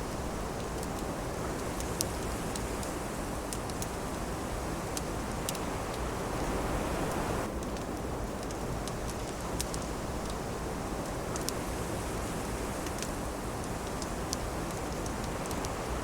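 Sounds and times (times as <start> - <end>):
steady wind: 0.0 - 16.0
wood fire crackling: 0.0 - 16.0.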